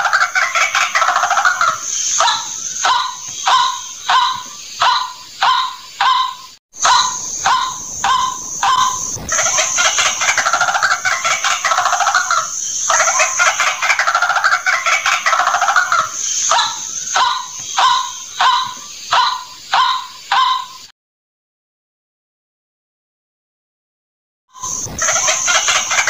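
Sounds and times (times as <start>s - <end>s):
waterhen calling: 0.0s - 20.9s, 24.6s - 26.0s.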